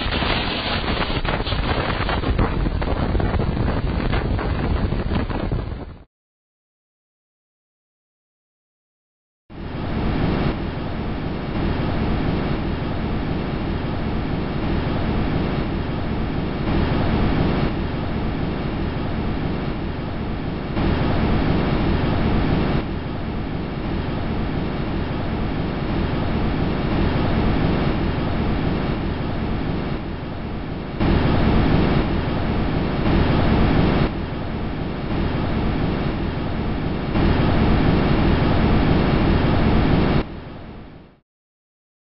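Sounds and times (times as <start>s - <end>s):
steady rushing rumbling noise: 0.0s - 6.1s, 9.5s - 40.8s.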